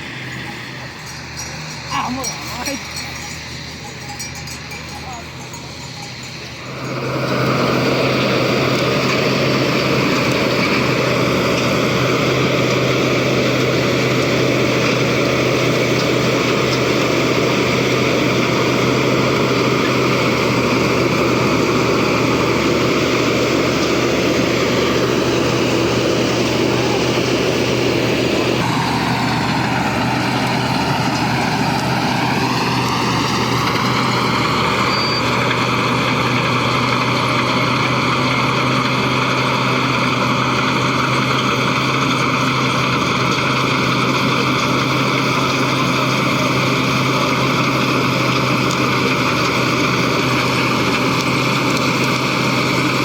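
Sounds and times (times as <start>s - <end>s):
heavy machine engine running: 0.0s - 53.0s.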